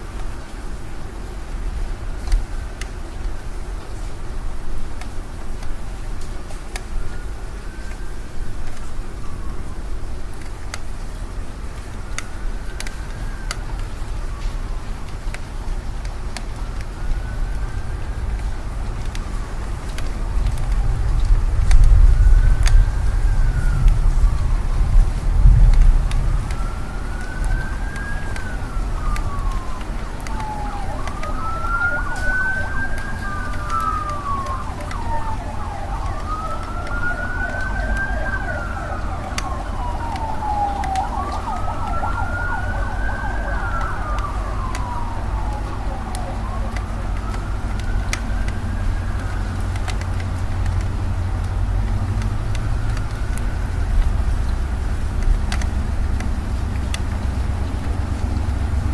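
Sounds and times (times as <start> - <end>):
city traffic rumble: 0.0 - 58.9
emergency vehicle siren wailing: 0.0 - 58.9.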